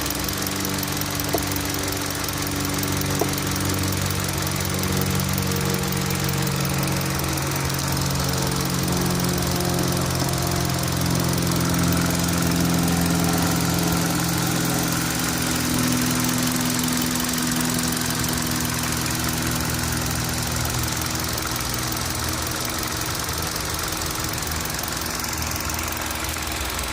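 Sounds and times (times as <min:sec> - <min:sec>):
engine idling with knocking tick: 0:00.0 - 0:26.9.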